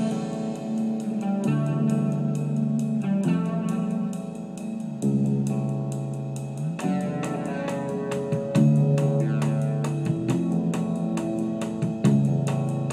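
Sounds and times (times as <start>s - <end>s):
band recording with guitar and drums: 0.0s - 12.9s.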